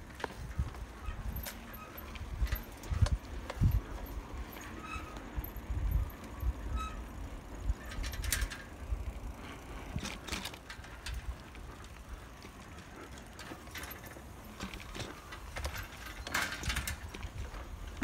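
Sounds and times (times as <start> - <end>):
bicycle rolling on path: 0.0 - 18.0
bike clicks and rattles: 0.0 - 18.0
handheld camera rumble: 0.0 - 18.0.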